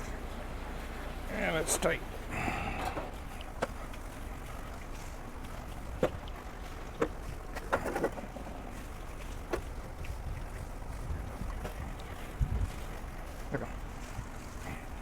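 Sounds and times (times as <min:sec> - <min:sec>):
wind rumble on microphone: 0:02.7 - 0:15.0.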